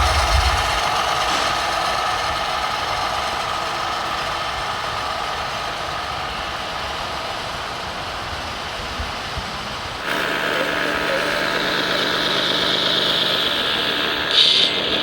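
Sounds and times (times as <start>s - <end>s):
model machine mechanical whine: 0.0s - 15.0s.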